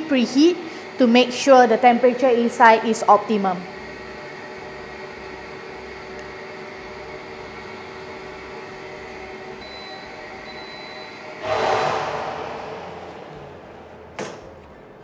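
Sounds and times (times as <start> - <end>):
oven fan humming: 0.0 - 15.0.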